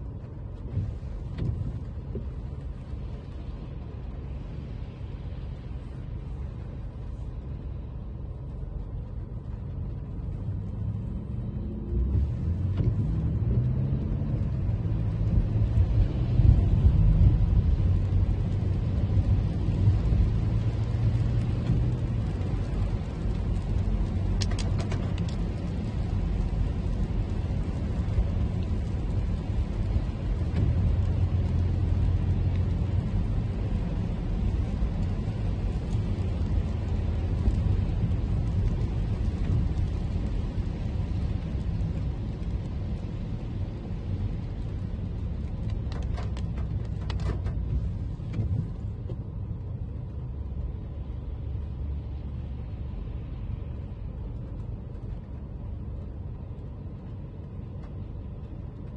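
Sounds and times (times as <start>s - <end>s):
car engine and road rumble: 0.0s - 58.9s
tyres hissing on wet road: 0.0s - 58.9s.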